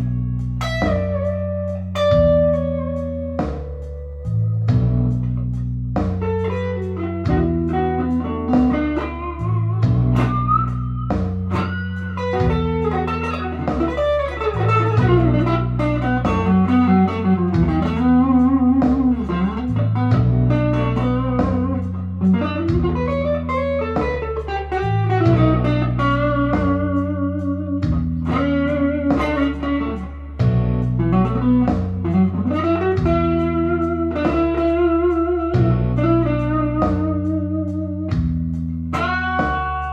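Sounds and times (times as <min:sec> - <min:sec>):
bass and chords backing: 0:00.0 - 0:39.9
clean electric guitar lead: 0:00.0 - 0:39.9.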